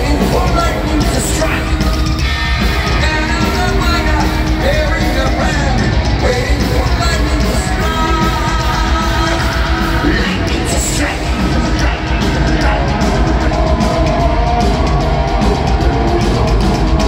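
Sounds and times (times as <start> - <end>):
male lead vocal singing: 0.0 - 2.0, 2.8 - 14.9
heavy metal band playing live: 0.0 - 17.0.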